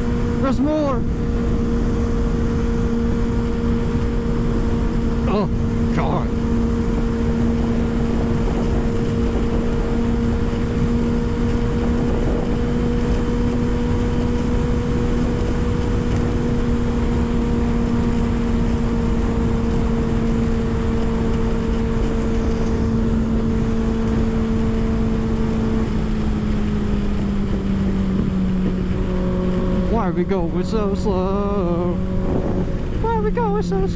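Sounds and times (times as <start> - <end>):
motorcycle engine cruising: 0.0 - 33.9
wind rush on microphone: 0.0 - 33.9.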